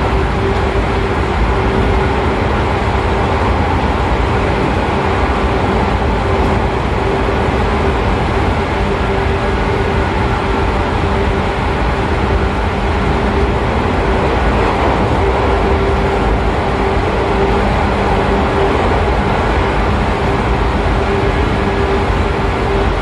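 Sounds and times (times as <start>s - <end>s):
traction motor hum: 0.0s - 23.0s
train wheels rumbling on rails: 0.0s - 23.0s.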